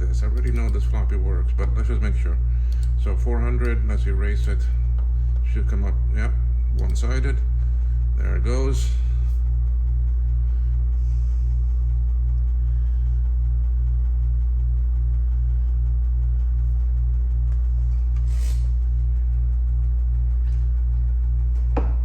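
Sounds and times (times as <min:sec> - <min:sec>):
floppy drive humming and pulsing: 0:00.0 - 0:22.0.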